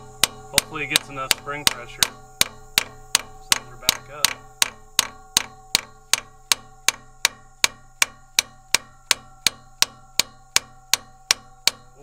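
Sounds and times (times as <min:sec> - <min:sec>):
mallet tapping on metal valve: 0:00.0 - 0:12.0.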